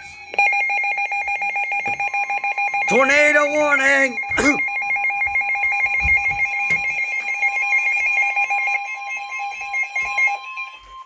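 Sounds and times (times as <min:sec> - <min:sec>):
two-tone alarm: 0:00.0 - 0:11.0.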